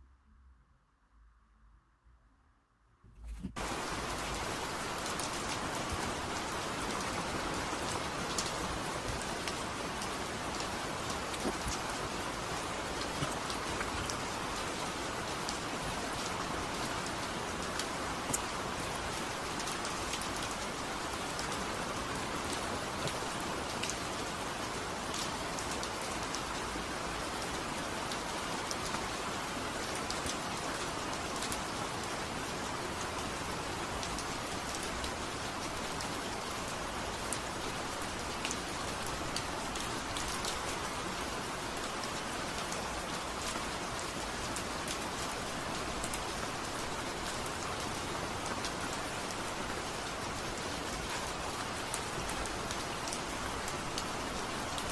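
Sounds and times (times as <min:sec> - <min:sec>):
steady rain falling: 0:03.5 - 0:54.9.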